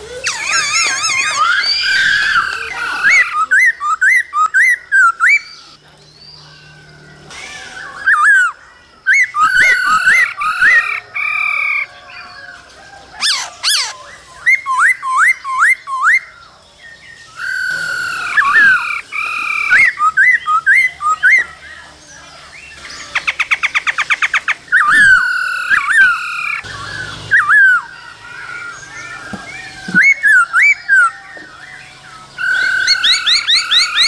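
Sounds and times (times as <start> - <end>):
bird singing whistled phrases: 0.0 - 12.4, 13.2 - 21.8, 22.5 - 34.0.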